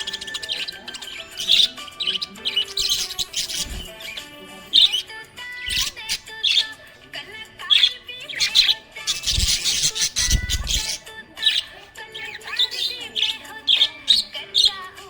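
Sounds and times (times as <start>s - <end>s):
budgerigar chirping and warbling: 0.0s - 6.9s, 7.5s - 15.0s.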